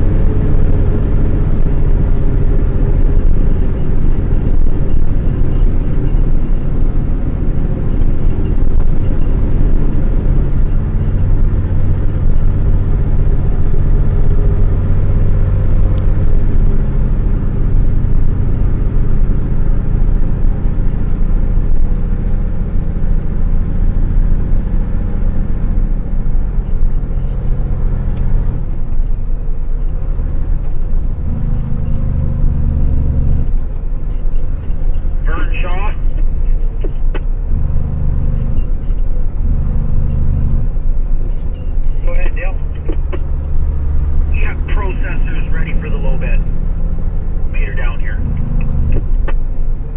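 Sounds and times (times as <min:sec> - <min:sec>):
road and cab noise: 0:00.0 - 0:49.9
truck diesel engine droning: 0:00.0 - 0:49.9.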